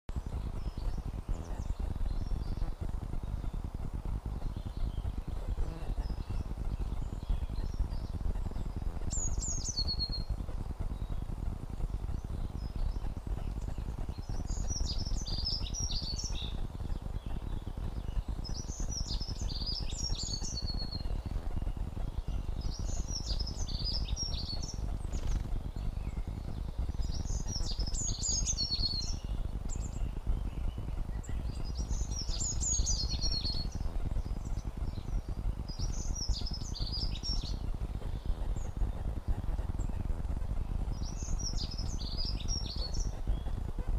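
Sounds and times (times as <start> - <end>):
low crackling and popping: 0.1 - 43.9
songbird trilling: 4.4 - 11.3, 11.9 - 40.1, 41.0 - 43.9.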